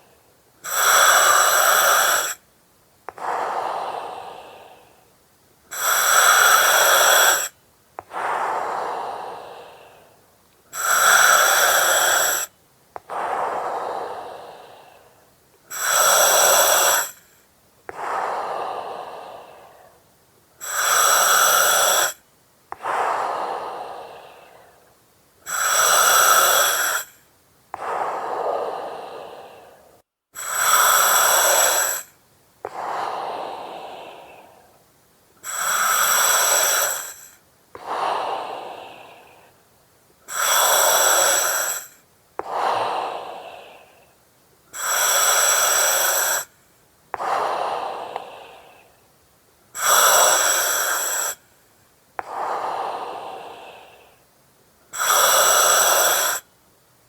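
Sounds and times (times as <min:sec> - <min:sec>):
breathing through oxygen mask: 0:00.0 - 0:02.4, 0:03.1 - 0:05.0, 0:05.7 - 0:24.9, 0:25.5 - 0:27.2, 0:27.8 - 0:34.8, 0:35.4 - 0:39.6, 0:40.3 - 0:49.0, 0:49.8 - 0:51.5, 0:52.2 - 0:54.2, 0:54.9 - 0:56.5.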